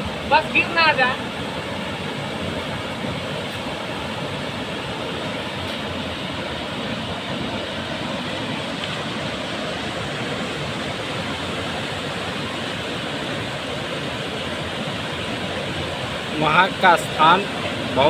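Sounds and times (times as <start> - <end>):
water rushing between boulders: 0.0 - 18.0.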